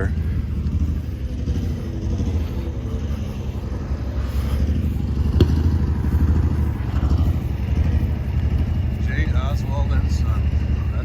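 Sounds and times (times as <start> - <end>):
large engine rumbling: 0.0 - 11.0.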